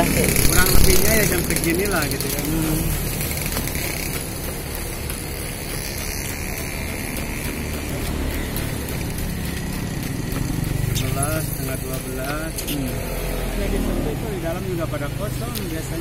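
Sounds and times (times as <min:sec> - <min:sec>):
street traffic passing: 0:00.0 - 0:16.0.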